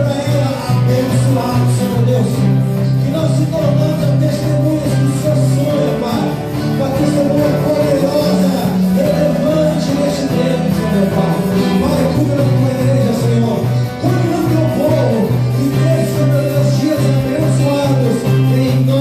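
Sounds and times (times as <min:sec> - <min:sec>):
band music: 0:00.0 - 0:19.0
bass line: 0:00.0 - 0:19.0
guitar: 0:00.0 - 0:19.0.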